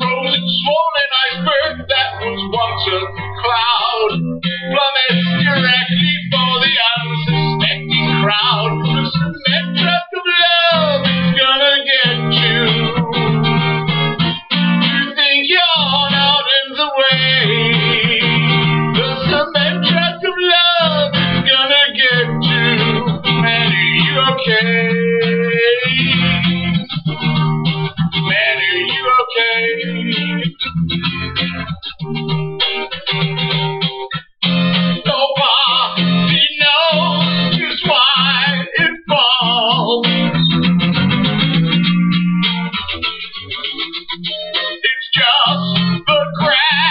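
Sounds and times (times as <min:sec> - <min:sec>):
acoustic guitar strumming: 0:00.0 - 0:46.9
sliding melody line: 0:00.0 - 0:46.9.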